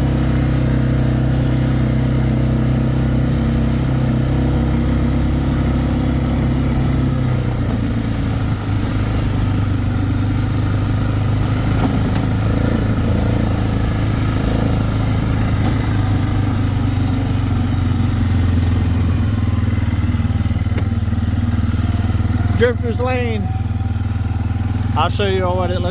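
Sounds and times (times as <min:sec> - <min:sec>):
atv engine running: 0:00.0 - 0:25.9.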